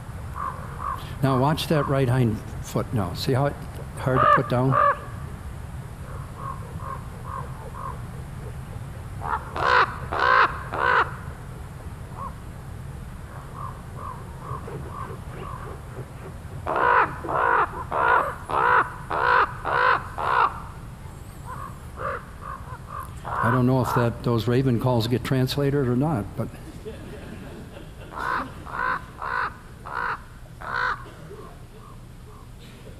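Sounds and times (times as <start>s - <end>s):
ravens calling: 0.0s - 2.2s, 3.0s - 12.5s, 13.1s - 25.6s, 27.2s - 32.8s
steady low hum: 0.0s - 32.9s.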